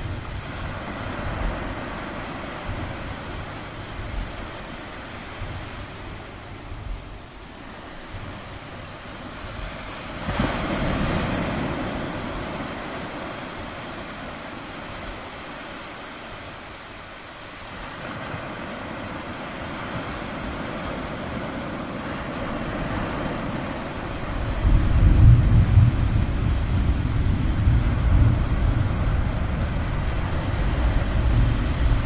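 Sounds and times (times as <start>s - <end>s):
ocean waves breaking on shore: 0.0s - 32.0s.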